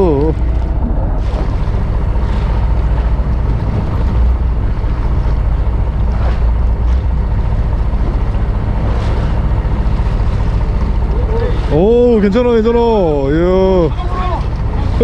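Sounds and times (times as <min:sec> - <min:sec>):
boat engine running: 0:00.0 - 0:15.0
waves splashing against hull: 0:00.0 - 0:15.0.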